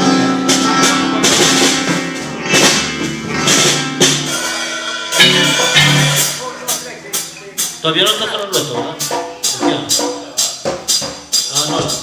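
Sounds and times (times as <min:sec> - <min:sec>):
held instrument notes: 0:00.0 - 0:10.6
drum kit hits: 0:00.0 - 0:12.0
ringing cymbals: 0:00.0 - 0:12.0.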